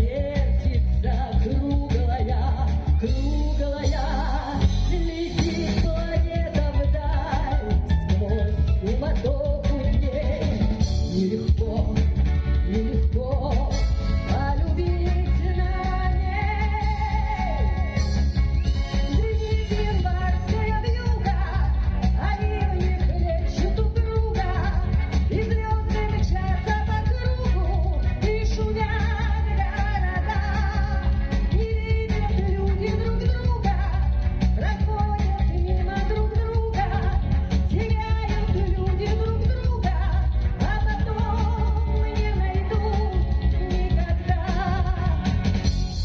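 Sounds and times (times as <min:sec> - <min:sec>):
backing track with steady beat: 0:00.0 - 0:46.0
woman singing pop song: 0:00.0 - 0:46.0.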